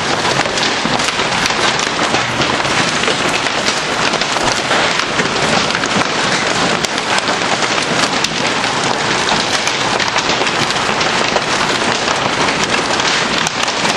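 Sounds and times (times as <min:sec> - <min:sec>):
hailstones ticking: 0:00.0 - 0:13.9.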